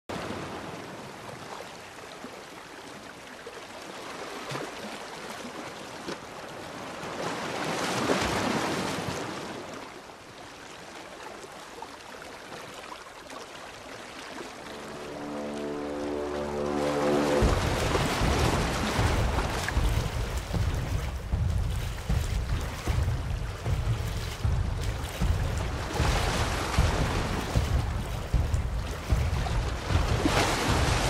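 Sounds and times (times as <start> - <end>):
sea water washing and lapping: 0.1 - 31.0.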